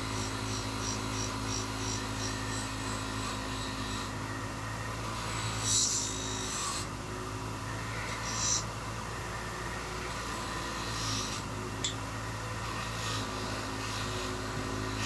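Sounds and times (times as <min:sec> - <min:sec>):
bench grinder running: 0:00.0 - 0:15.0
metal scraping on grinder: 0:00.0 - 0:15.0.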